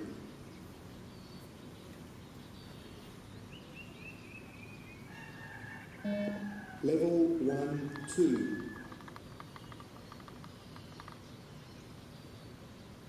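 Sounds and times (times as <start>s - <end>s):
bird chirping: 0.0s - 13.0s
faint background noise: 0.0s - 13.0s.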